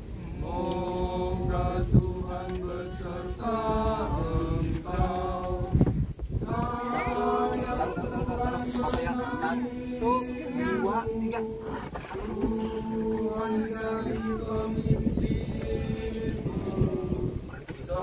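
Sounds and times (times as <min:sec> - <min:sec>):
group singing hymn unaccompanied: 0:00.0 - 0:18.0.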